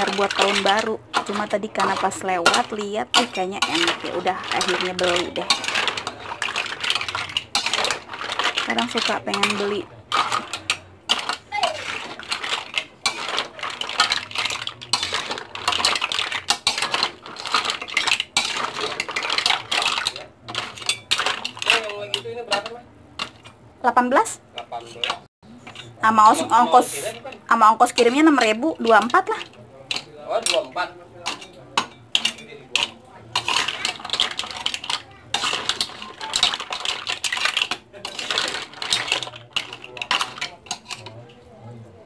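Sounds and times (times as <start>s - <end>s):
mussel shells clattering in pan: 0.0s - 41.6s.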